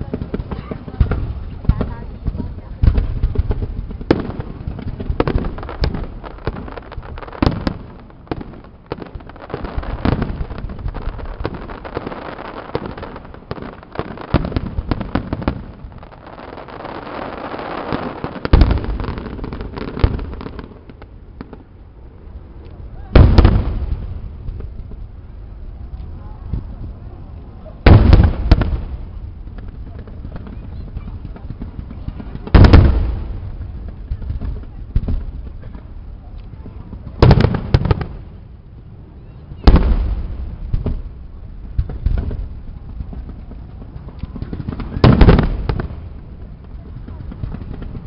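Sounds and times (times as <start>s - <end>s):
fireworks rapid pops: 0.0s - 21.7s, 27.8s - 38.3s, 39.6s - 48.0s
fireworks booming: 0.0s - 48.0s.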